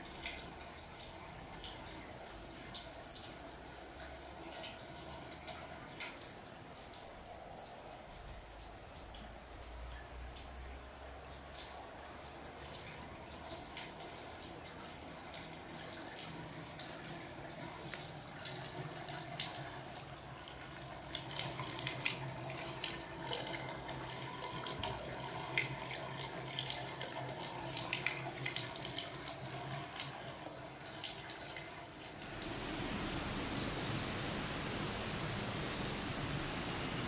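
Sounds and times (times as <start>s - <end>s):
water pouring and splashing: 0.0s - 7.2s, 10.3s - 37.0s
insects droning: 0.0s - 37.0s.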